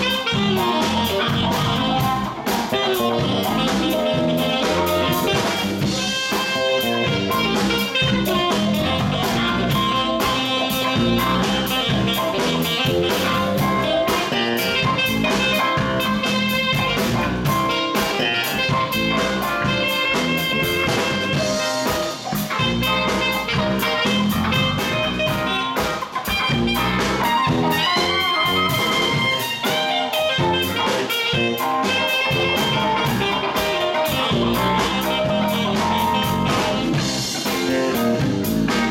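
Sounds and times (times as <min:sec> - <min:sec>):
drum kit: 0:00.0 - 0:38.9
electric guitar: 0:00.0 - 0:38.9
saxophone: 0:00.0 - 0:38.9.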